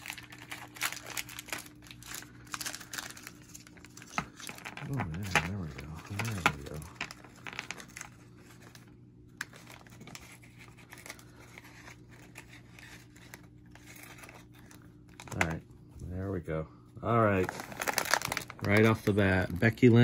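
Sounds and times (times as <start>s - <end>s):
wrapper crinkling and tearing: 0.0s - 15.6s, 17.2s - 20.0s.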